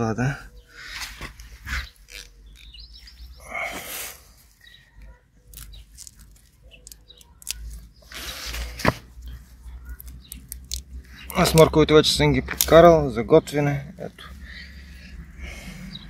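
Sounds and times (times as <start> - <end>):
soil and mulch crackling: 0.1 - 16.0.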